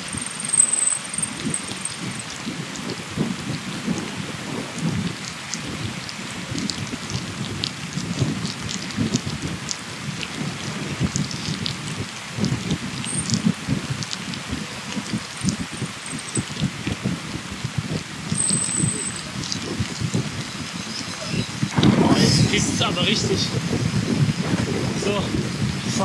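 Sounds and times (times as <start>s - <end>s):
wind buffeting microphone: 0.0s - 26.0s
light crackles: 4.8s - 26.0s.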